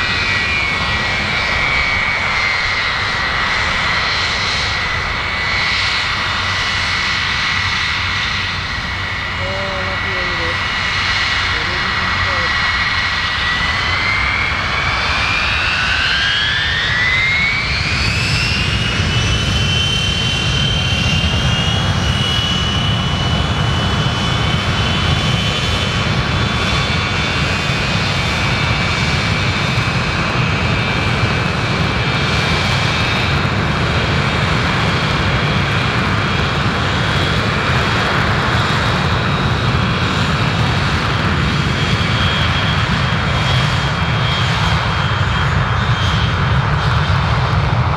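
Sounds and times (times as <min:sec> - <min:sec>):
jet engines spooling up: 0:00.0 - 0:47.9.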